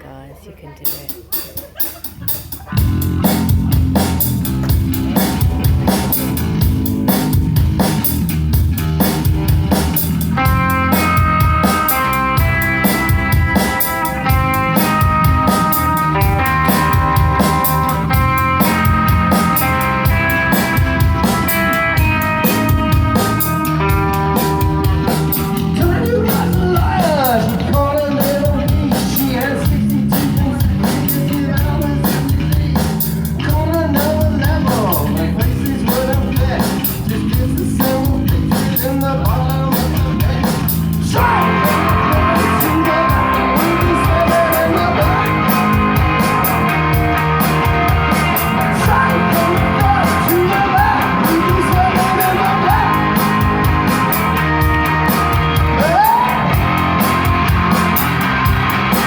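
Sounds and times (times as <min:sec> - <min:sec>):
rock band playing live: 0:00.8 - 0:59.0.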